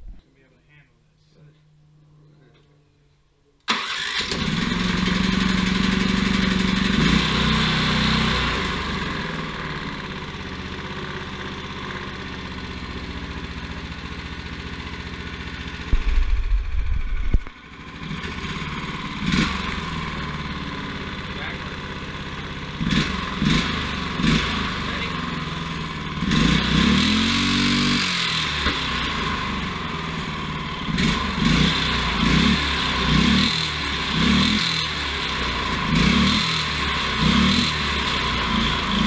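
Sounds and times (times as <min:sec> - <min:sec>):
engine running: 0:03.7 - 0:39.0.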